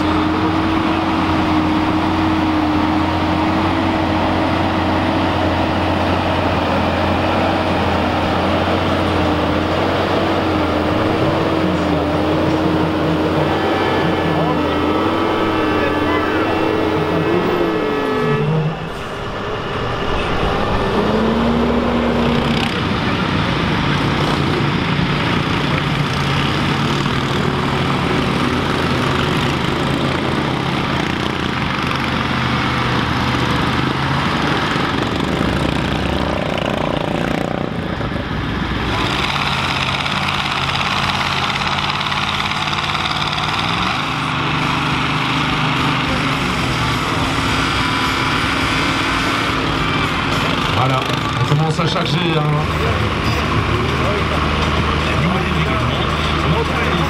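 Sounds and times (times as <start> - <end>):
diesel tractor engines under load: 0.0 - 57.0.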